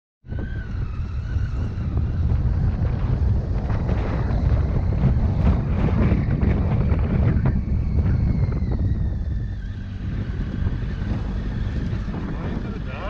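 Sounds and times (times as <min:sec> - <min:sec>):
wind buffeting on microphone: 0:00.2 - 0:13.0
motorcycle engine running: 0:01.1 - 0:13.0.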